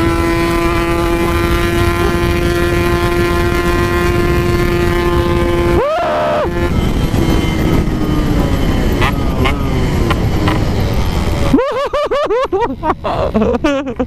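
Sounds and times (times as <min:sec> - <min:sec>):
two-stroke motorcycle engine revving: 0:00.0 - 0:14.0
wind rumble on microphone: 0:00.0 - 0:14.0.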